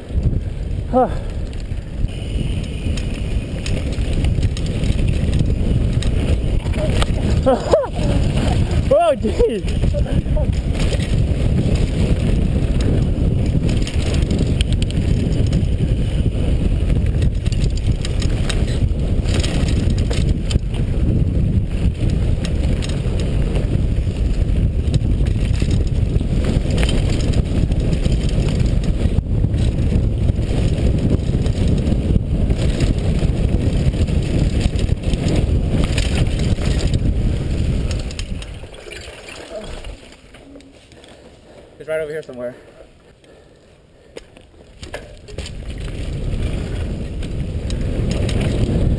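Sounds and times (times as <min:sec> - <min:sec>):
wind rushing on microphone: 0:00.0 - 0:40.2, 0:44.6 - 0:48.9
bike clicking and rattling: 0:00.0 - 0:48.9
tyres on loose dirt: 0:00.0 - 0:48.9.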